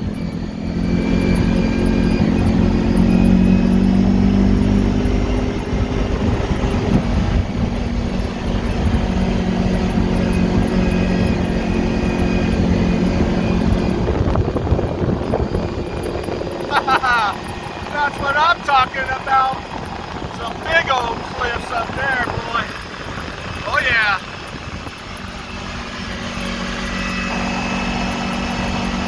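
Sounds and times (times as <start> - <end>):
atv engine running: 0.0 - 29.0
wind rumble: 0.0 - 29.0.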